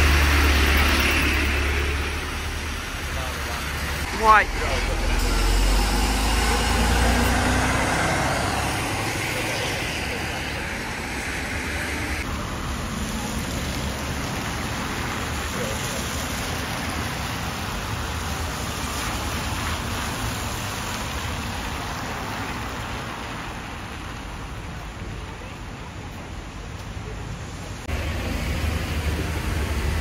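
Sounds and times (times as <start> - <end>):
traffic on wet road: 0.0 - 30.0.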